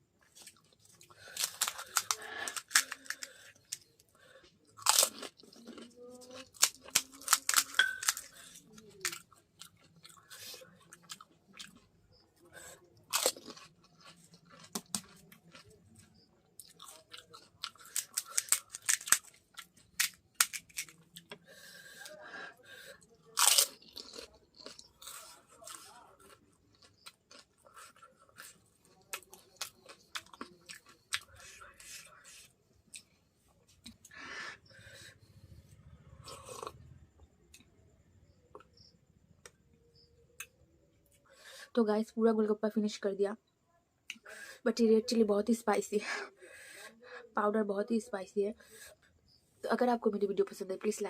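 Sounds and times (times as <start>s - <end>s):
person chewing crisp shells: 0.2s - 41.5s.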